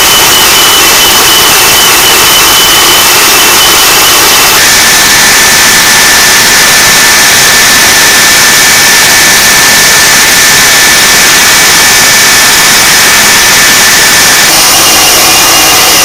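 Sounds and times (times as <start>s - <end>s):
jet turbine running: 0.0s - 16.0s.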